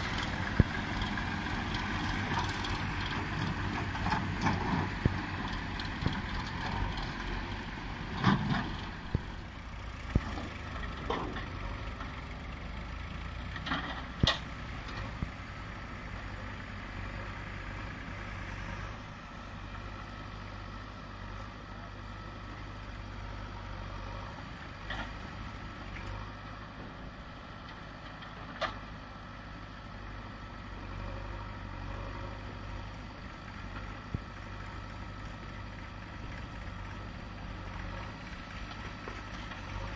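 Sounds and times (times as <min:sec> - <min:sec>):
diesel engines droning: 0:00.0 - 0:39.9.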